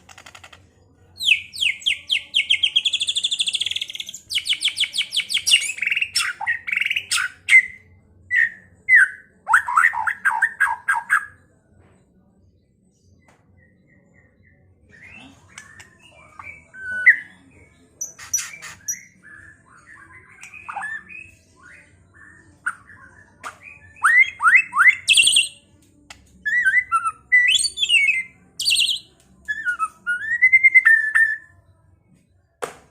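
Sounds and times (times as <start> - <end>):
songbird whistling song: 1.2 - 11.4, 13.2 - 25.7, 26.4 - 31.6.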